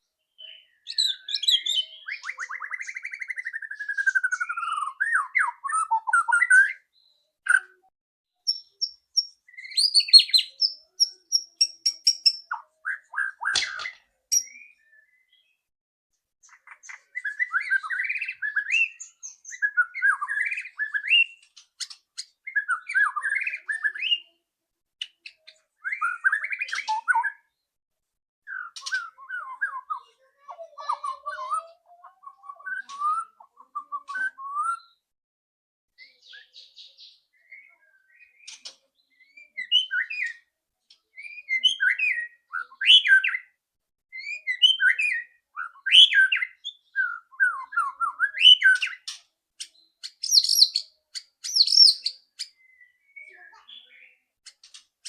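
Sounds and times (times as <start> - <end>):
bird singing whistled notes: 0.3 - 7.7, 8.4 - 15.6, 16.5 - 24.4, 25.3 - 27.6, 28.5 - 30.0, 32.2 - 35.0, 36.0 - 40.5, 41.2 - 49.1, 49.8 - 54.2.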